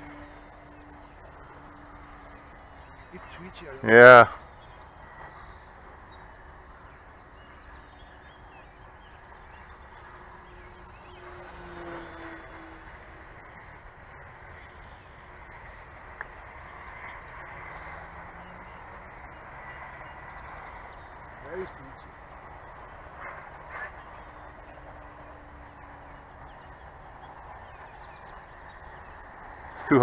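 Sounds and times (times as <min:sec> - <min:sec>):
distant model plane motor drone: 0:00.0 - 0:30.0
outdoor background noise: 0:00.0 - 0:30.0.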